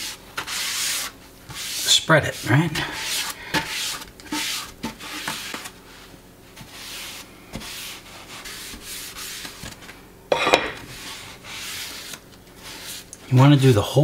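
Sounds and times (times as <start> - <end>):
sponge rubbing on sink: 0.0 - 9.7, 10.8 - 14.0.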